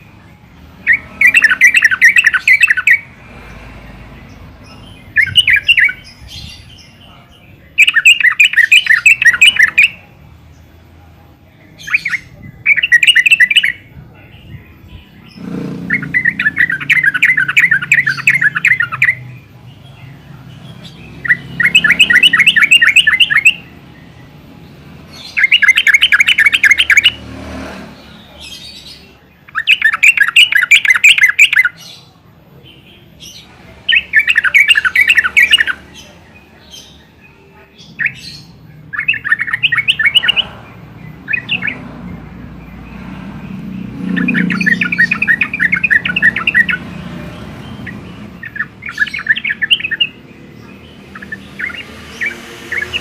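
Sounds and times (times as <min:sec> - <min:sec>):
bird rapid chattering calls: 0:00.8 - 0:03.6, 0:04.3 - 0:07.1, 0:07.8 - 0:10.0, 0:11.8 - 0:13.9, 0:15.2 - 0:24.2, 0:25.0 - 0:32.1, 0:33.2 - 0:37.0, 0:37.8 - 0:53.0.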